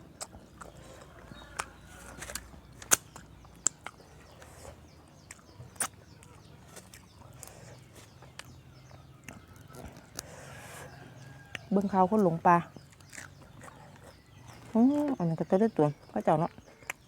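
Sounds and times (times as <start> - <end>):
crunching while eating: 0.0 - 15.2.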